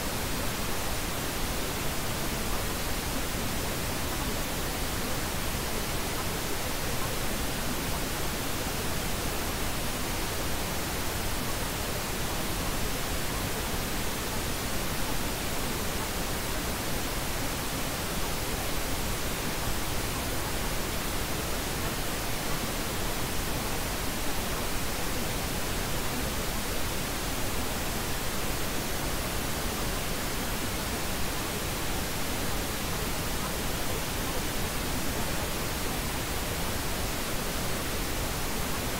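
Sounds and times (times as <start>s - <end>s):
steady pink noise hiss: 0.0s - 38.9s.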